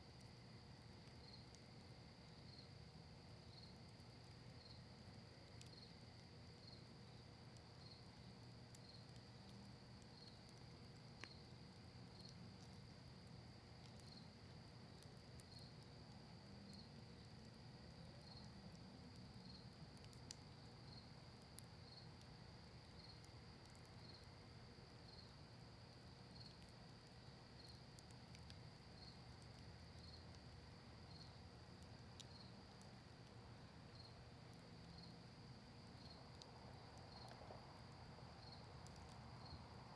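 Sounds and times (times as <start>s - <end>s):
campfire crackling pops: 0.1s - 39.9s
crickets chirping: 0.1s - 39.9s.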